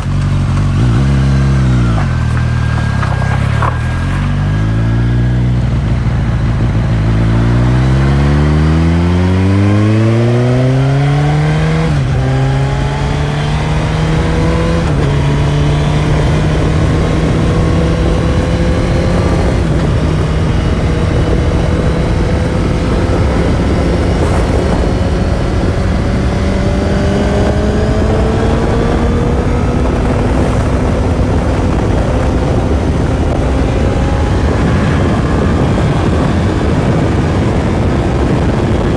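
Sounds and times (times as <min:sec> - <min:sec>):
motorcycle engine accelerating: 0:00.0 - 0:38.9
wind noise rushing: 0:00.0 - 0:38.9.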